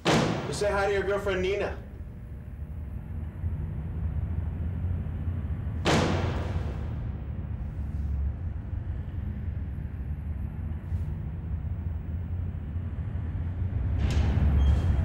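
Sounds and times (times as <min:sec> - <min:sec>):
old lift rumbling: 0:00.0 - 0:15.0.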